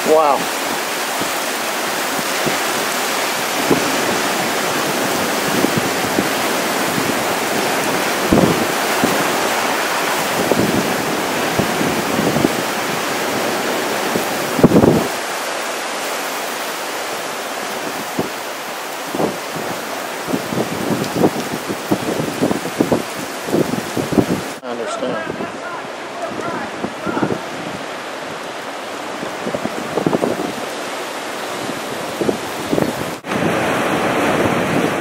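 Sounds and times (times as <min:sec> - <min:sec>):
gusting wind: 0:00.0 - 0:35.0
heavy rain: 0:00.0 - 0:35.0.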